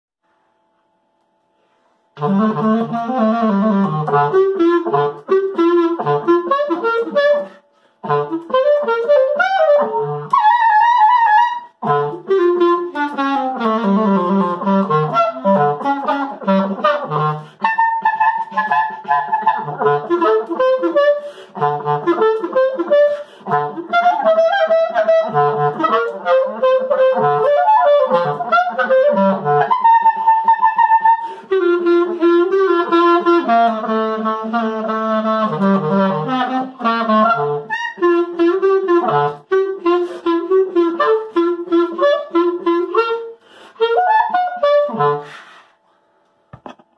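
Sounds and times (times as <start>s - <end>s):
solo clarinet melody: 1.6s - 45.9s.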